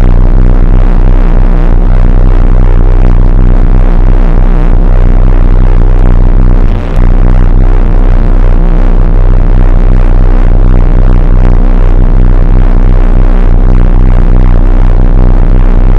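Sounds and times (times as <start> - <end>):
pulsing electronic sound: 0.0 - 15.9.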